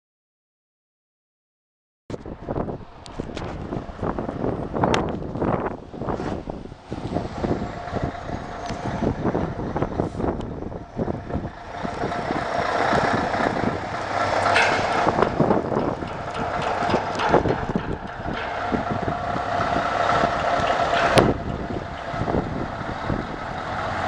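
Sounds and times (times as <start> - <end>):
truck engine running: 2.5 - 24.0.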